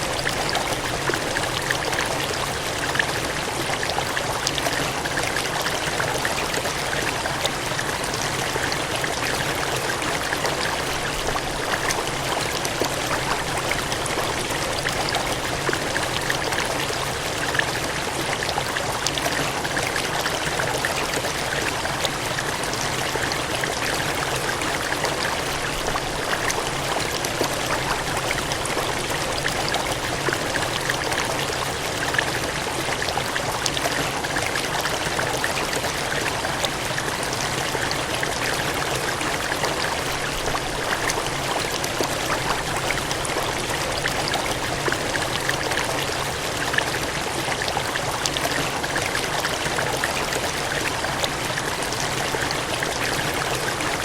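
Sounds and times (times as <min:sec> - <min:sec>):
water gushing and cascading: 0:00.0 - 0:54.0.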